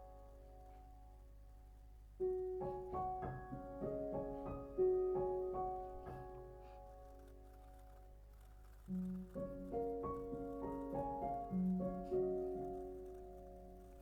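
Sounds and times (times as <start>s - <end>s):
soft solo piano music: 0.0s - 14.0s.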